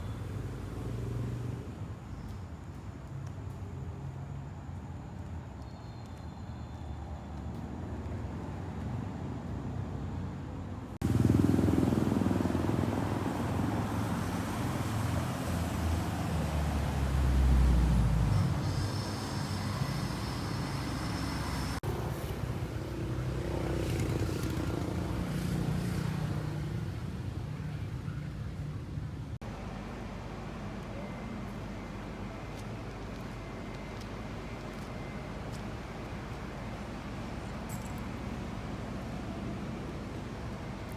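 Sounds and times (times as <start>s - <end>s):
street traffic rumble: 0.0s - 40.9s.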